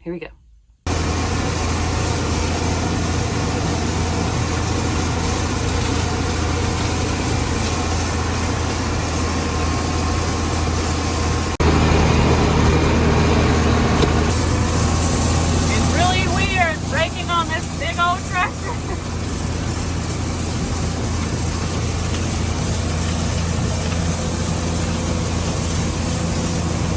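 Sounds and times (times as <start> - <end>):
broad rushing noise: 0.9 - 26.9
tractor engine running: 0.9 - 26.9.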